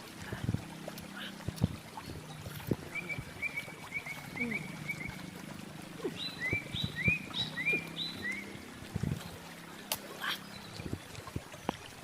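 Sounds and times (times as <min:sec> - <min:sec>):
birds chirping: 0:00.8 - 0:12.0.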